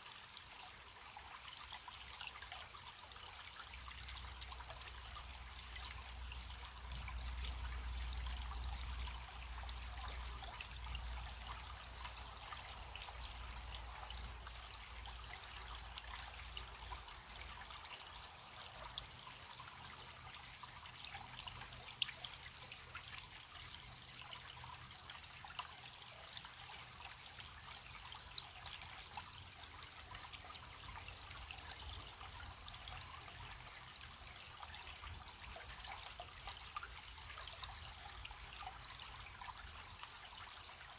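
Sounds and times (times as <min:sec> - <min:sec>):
crickets chirping: 0:00.0 - 0:40.9
stream trickling over stones: 0:00.0 - 0:40.9.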